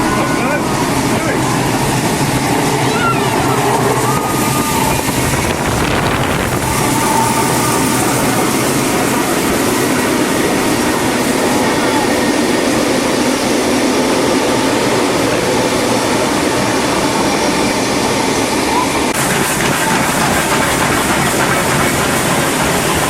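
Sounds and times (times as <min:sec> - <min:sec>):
train rushing and rumbling: 0:00.0 - 0:23.0.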